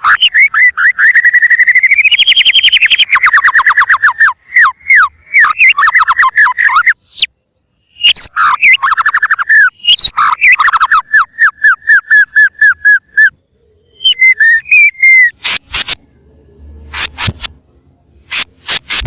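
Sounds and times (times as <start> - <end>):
harsh clicking bird calls: 0.0 - 7.3, 7.9 - 16.1, 16.8 - 17.6, 18.2 - 19.0
songbird singing loudly: 0.0 - 19.0.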